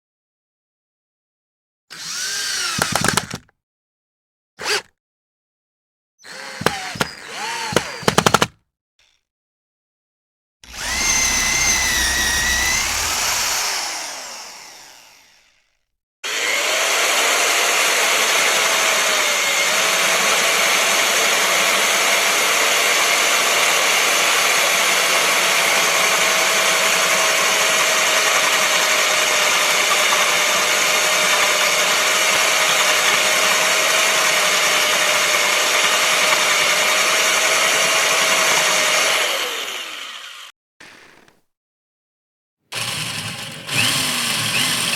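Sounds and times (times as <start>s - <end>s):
electric drill whining: 1.9s - 3.5s, 4.6s - 4.9s, 6.2s - 9.2s, 10.6s - 41.4s, 42.7s - 44.9s.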